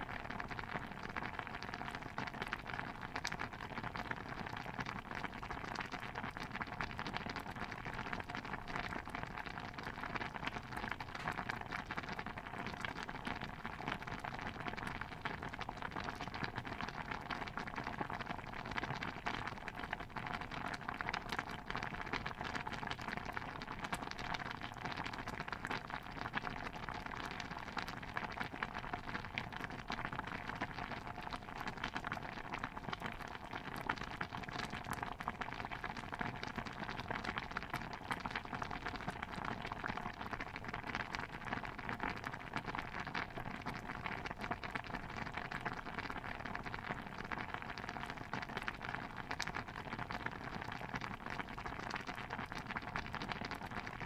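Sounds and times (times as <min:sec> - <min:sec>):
bubbling: 0:00.0 - 0:54.0
dense crackle of tiny pops: 0:00.0 - 0:54.0.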